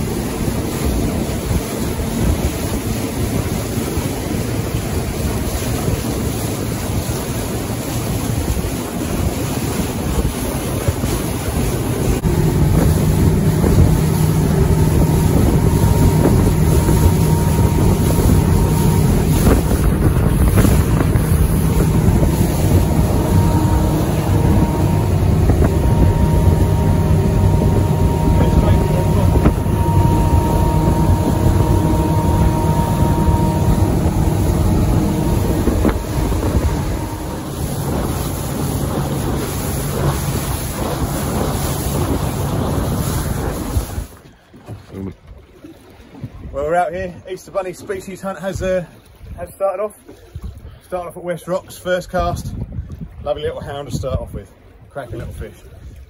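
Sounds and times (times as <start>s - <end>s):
wind on microphone: 0.0s - 45.2s, 46.0s - 46.6s, 50.1s - 50.8s, 52.1s - 56.0s
motorboat engine: 0.0s - 56.0s
water rushing past hull: 0.0s - 56.0s.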